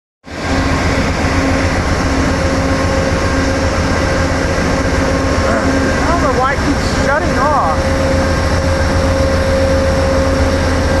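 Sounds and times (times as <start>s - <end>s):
diesel train engine rumble: 0.2s - 11.0s.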